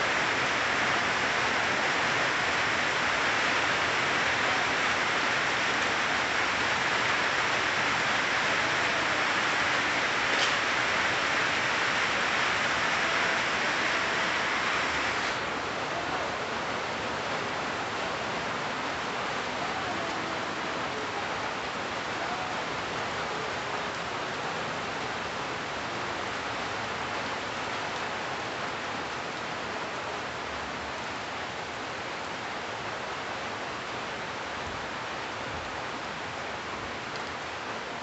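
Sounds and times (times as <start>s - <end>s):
rain on leaves: 0.0s - 38.0s.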